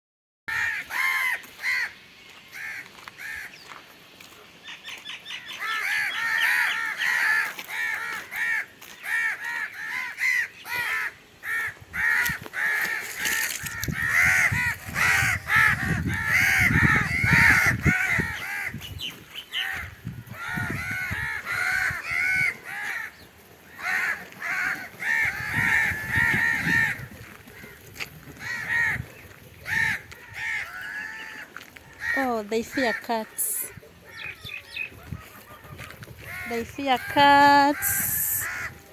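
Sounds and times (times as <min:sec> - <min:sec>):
crows cawing: 0:00.5 - 0:03.8, 0:04.8 - 0:38.9.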